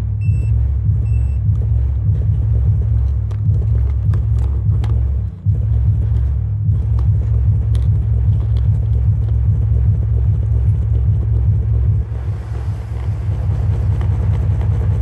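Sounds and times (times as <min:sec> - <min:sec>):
deep pulsing bass music: 0:00.0 - 0:15.0.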